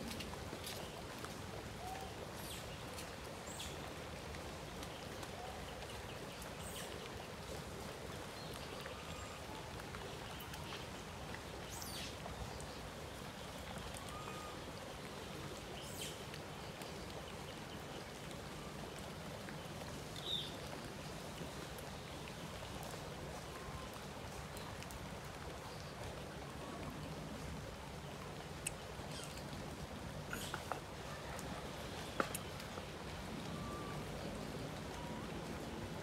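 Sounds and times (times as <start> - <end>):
rain pattering on puddles: 0.0 - 36.0
water drips: 0.0 - 36.0.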